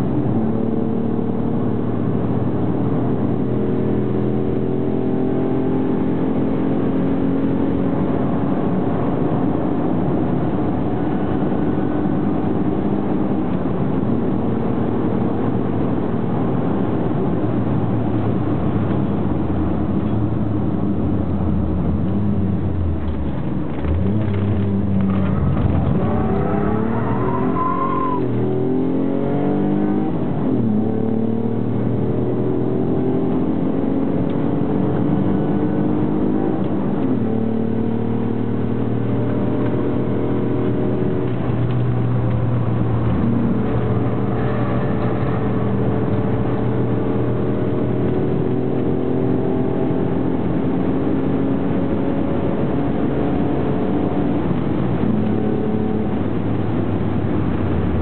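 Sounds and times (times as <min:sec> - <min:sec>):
car engine revving: 0:00.0 - 0:58.0
tyre and road noise: 0:06.6 - 0:58.0.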